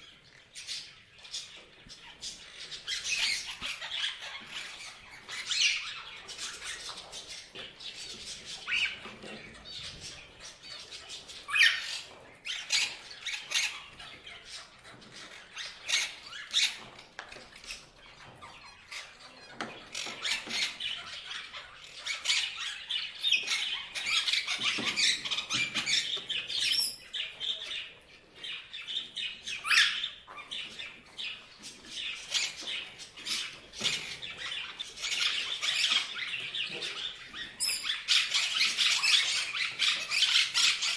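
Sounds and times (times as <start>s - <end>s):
parrots chirping: 0.0s - 40.9s.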